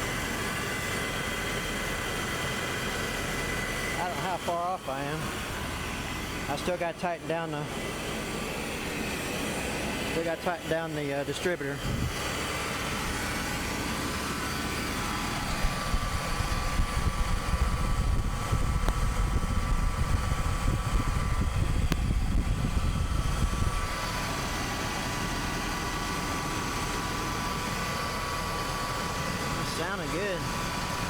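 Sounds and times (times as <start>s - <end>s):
pickup truck engine idling: 0.0s - 31.0s.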